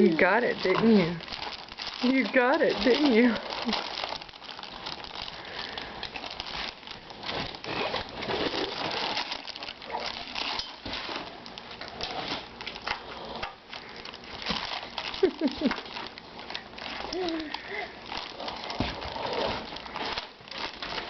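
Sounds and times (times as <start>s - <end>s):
plastic package crinkling: 0.0s - 21.0s.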